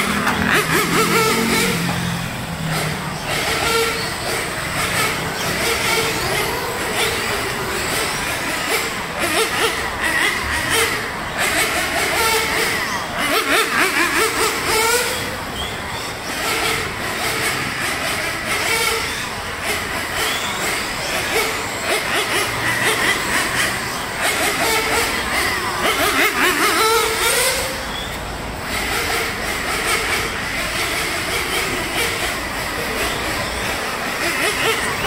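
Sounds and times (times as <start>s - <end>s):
small high-revving engines: 0.0s - 35.0s.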